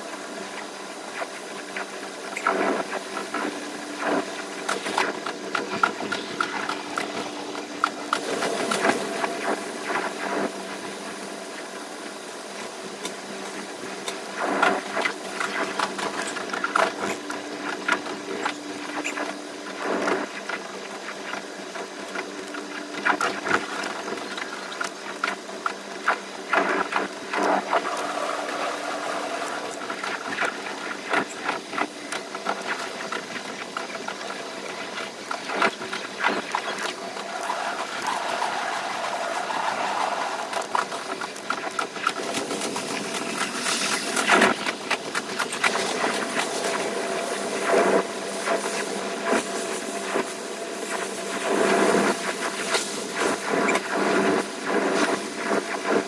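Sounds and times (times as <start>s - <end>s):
train running hum: 0.0s - 56.0s
wheels clicking on track: 1.2s - 11.1s, 12.0s - 56.0s.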